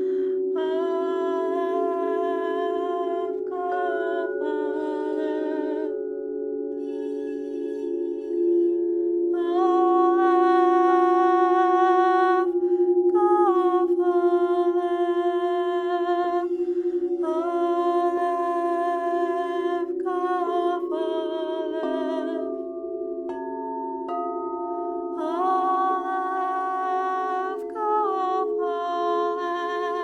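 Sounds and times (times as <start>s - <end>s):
singing bowl ringing: 0.0s - 30.0s.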